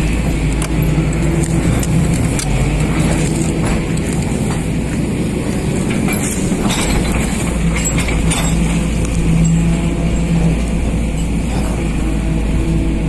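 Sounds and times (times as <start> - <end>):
excavator diesel engine running: 0.0 - 13.0
hydraulics working: 0.0 - 13.0.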